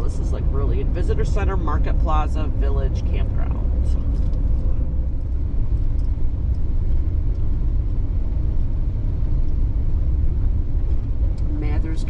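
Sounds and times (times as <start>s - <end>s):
van engine and road noise: 0.0s - 12.0s.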